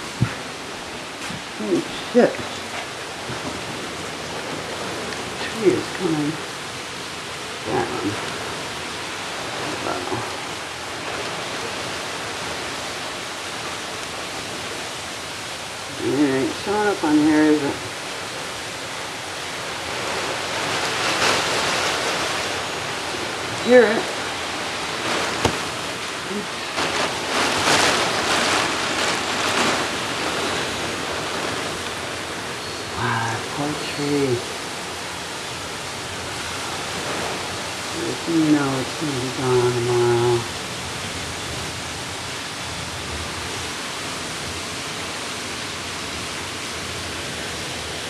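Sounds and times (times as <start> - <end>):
heavy rain: 0.0 - 48.0
storm wind gusting through trees: 0.0 - 48.0.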